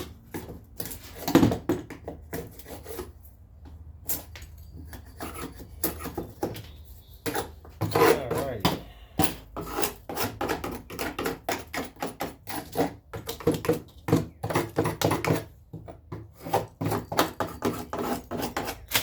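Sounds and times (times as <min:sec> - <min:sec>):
tool scraping wood: 0:00.0 - 0:03.3, 0:04.2 - 0:19.0.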